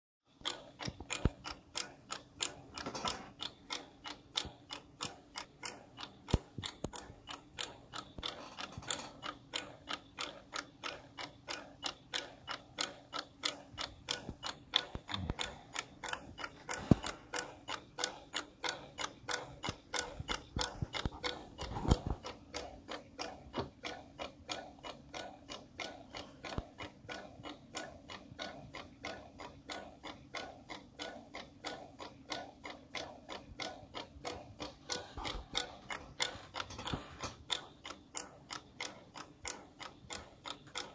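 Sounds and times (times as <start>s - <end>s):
motor ticking clicks: 0.3s - 40.9s.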